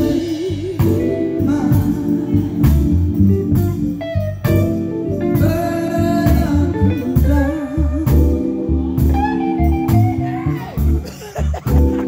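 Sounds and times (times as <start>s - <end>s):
electric bass: 0.0s - 12.0s
electric guitar: 0.0s - 12.0s
organ holding chords: 0.0s - 12.0s.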